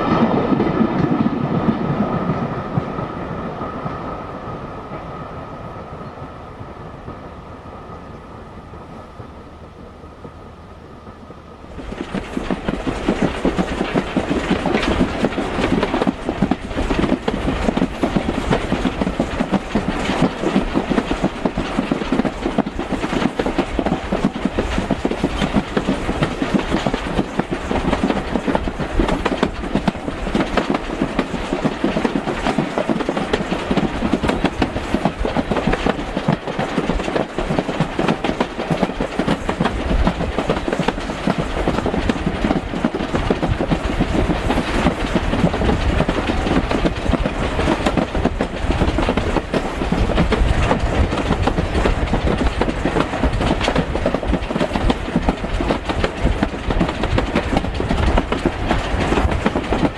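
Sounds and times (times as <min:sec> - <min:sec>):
train wheels clattering on track: 0:00.0 - 0:59.9.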